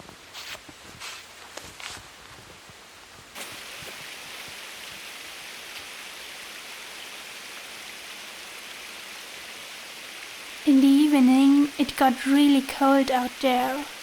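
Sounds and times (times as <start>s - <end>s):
steady hiss: 0.1s - 14.0s.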